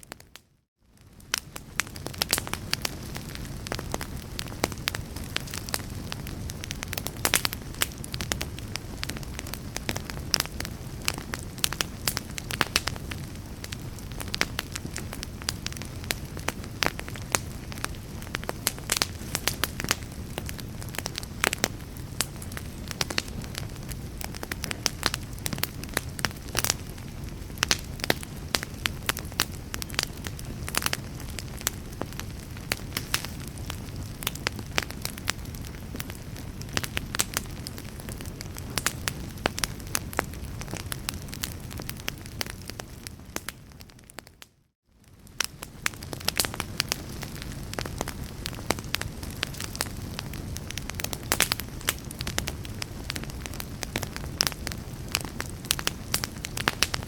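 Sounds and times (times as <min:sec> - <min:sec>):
burning wood crackling and popping: 0:00.0 - 0:57.0
low rumble of flames: 0:00.2 - 0:57.0.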